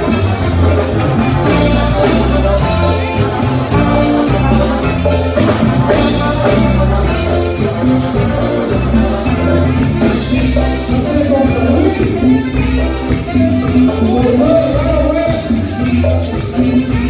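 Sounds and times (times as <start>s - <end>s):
deep bass: 0.0s - 16.1s
drum kit beat: 0.0s - 17.0s
live band playing dance music: 0.0s - 17.0s.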